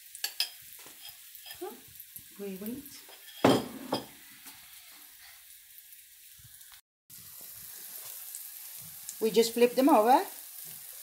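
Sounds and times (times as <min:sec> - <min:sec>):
pancakes sizzling in frying pan: 0:00.0 - 0:11.0.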